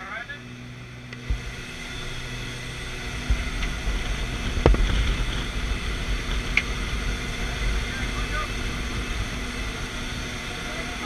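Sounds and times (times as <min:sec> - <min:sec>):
airplane engine rumble: 0:00.0 - 0:11.0
wind rushing: 0:01.2 - 0:11.0.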